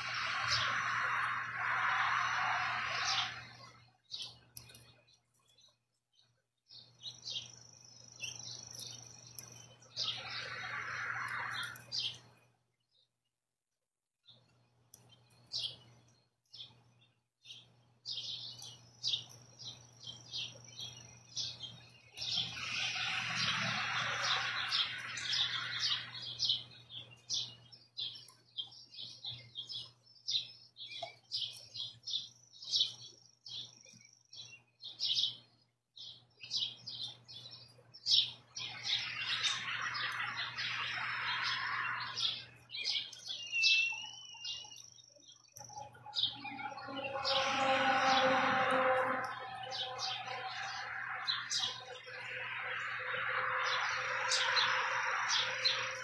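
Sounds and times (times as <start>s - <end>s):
small birds chirping: 0.0s - 13.1s, 14.2s - 56.0s.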